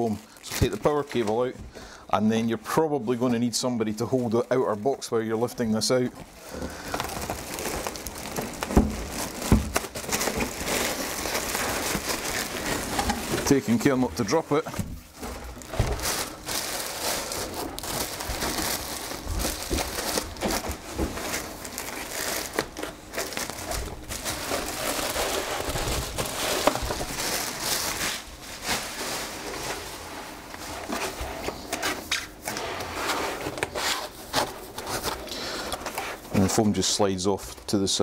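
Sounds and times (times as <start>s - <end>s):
plastic bag crinkling: 0.0s - 32.5s.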